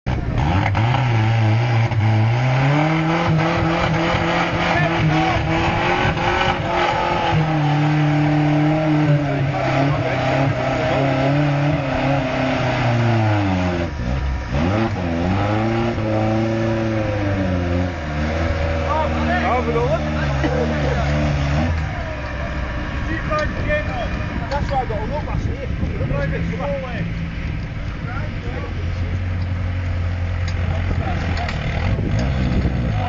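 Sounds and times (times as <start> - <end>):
car engine revving hard: 0.1 - 27.5, 28.6 - 33.0.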